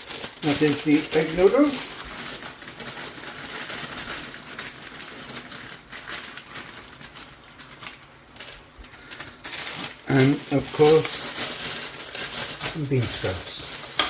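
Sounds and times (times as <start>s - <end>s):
vegetables sizzling in a wok: 0.0s - 14.0s.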